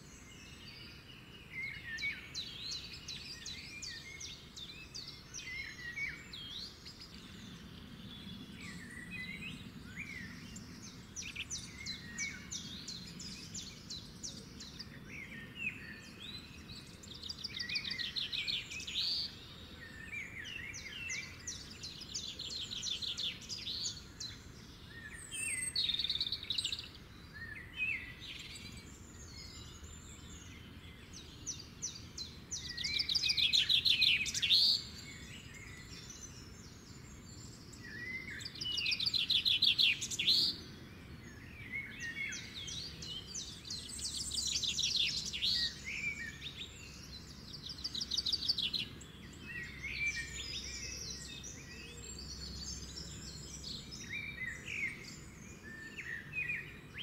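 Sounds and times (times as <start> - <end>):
faint outdoor hiss: 0.0 - 57.0
songbirds trilling: 0.0 - 57.0.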